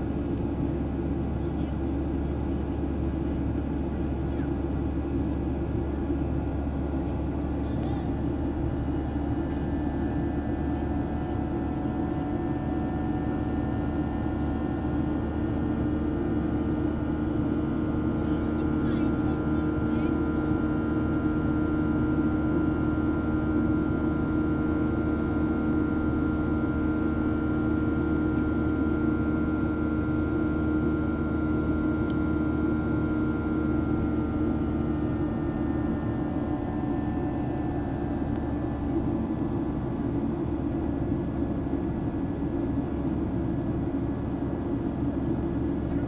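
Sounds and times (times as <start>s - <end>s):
jet engine drone in cabin: 0.0s - 46.0s.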